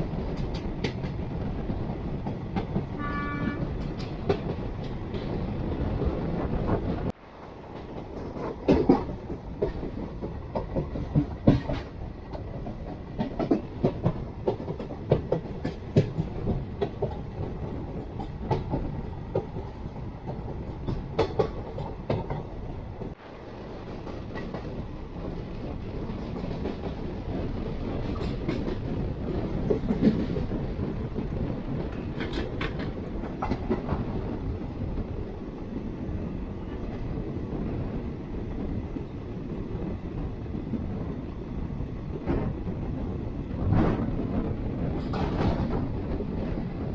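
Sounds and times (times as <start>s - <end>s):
train rumbling on rails: 0.0s - 46.9s.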